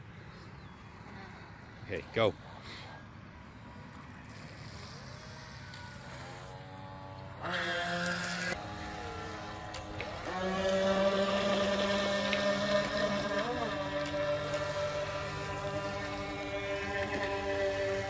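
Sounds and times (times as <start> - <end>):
model boat motors whining: 0.0 - 18.0.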